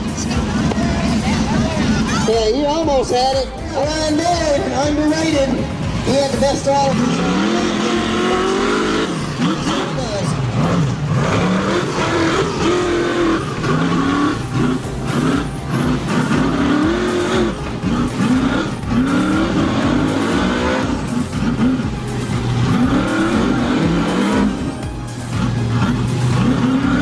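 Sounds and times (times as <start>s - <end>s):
buggy engine revving: 0.0s - 27.0s.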